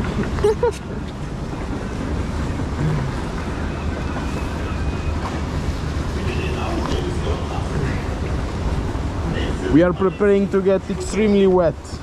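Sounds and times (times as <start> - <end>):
rushing water: 0.0 - 12.0
wind buffeting microphone: 0.0 - 12.0.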